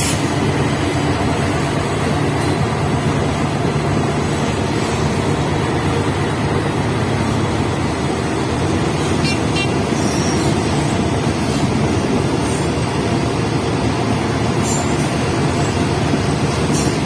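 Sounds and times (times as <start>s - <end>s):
diesel locomotive engine drone: 0.0s - 17.0s
train wheels on rails: 0.0s - 17.0s.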